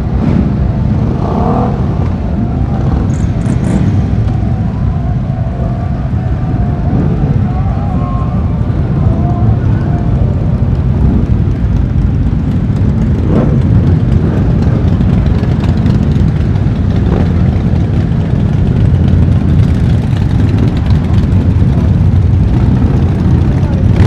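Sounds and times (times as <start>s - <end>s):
motorcycle engine running: 0.0s - 24.0s
wind rumble on microphone: 0.0s - 24.0s.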